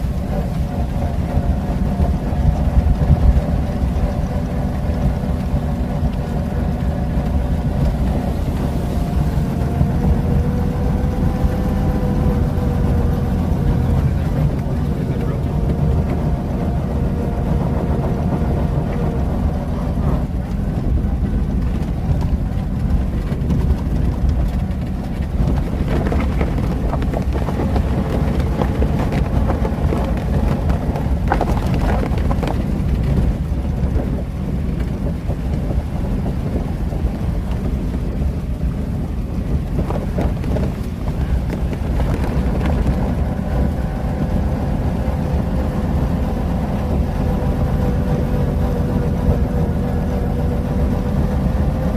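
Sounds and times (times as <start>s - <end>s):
water splashing: 0.0s - 45.5s
car engine running: 0.0s - 51.9s.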